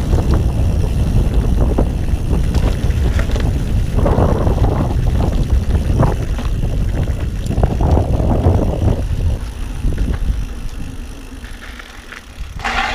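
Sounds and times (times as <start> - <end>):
wind buffeting microphone: 0.0 - 11.6, 12.2 - 12.9
bike rattling over dirt trail: 0.0 - 12.9.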